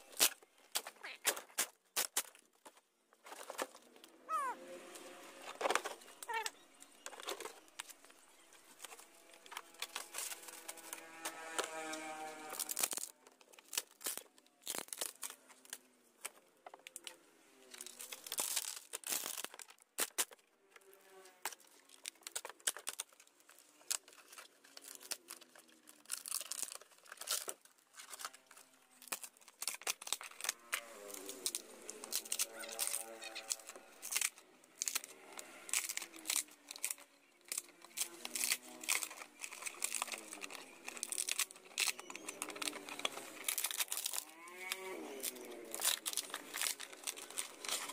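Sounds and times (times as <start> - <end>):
plywood cracking and tearing: 0.0 - 47.9.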